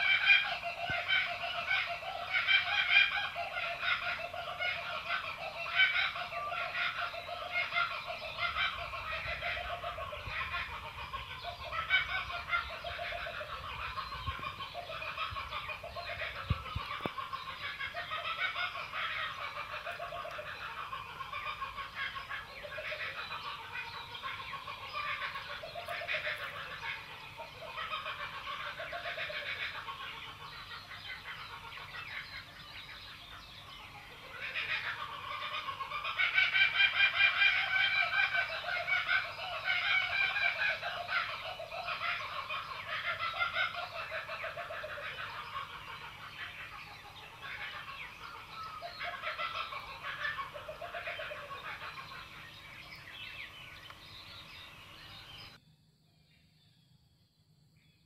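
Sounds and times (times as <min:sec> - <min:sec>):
chorus of animal calls: 0:00.0 - 0:56.6.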